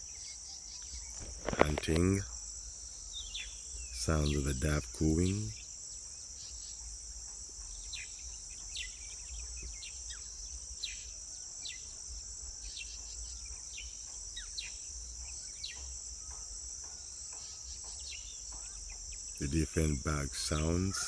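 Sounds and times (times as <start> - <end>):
insect chorus: 0.0 - 21.0
small birds chirping: 0.0 - 21.0.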